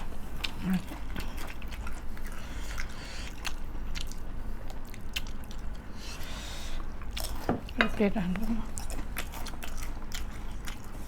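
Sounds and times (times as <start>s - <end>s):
low steady hum: 0.0s - 11.0s
chewing and mouth noises: 0.1s - 5.9s, 6.9s - 7.8s, 8.4s - 11.0s.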